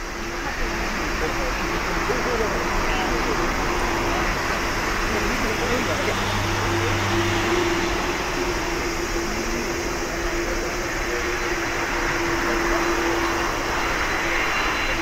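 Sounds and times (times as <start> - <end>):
jet engines running at low power: 0.0 - 15.0.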